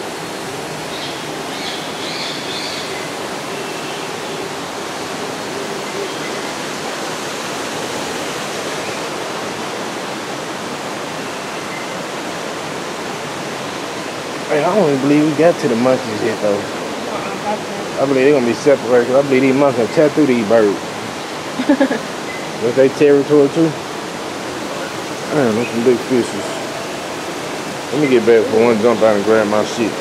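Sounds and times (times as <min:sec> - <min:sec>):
rushing water of waterfall: 0:00.0 - 0:30.0.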